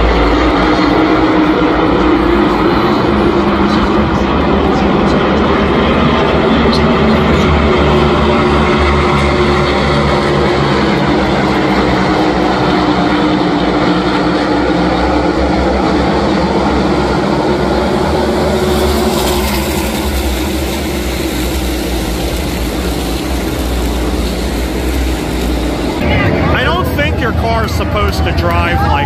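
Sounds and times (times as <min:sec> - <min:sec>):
race cars roaring past: 0:00.0 - 0:29.0.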